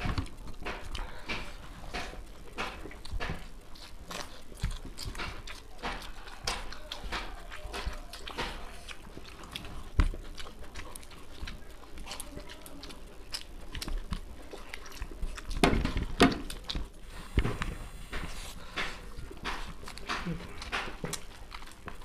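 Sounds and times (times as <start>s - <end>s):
fingers working food on plates: 0.0s - 22.0s
people chewing: 0.0s - 22.0s.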